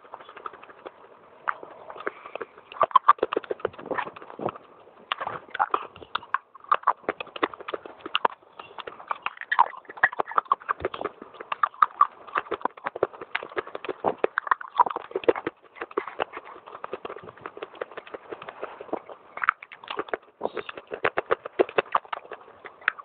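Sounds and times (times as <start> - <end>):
crunchy chewing: 0.0 - 23.0.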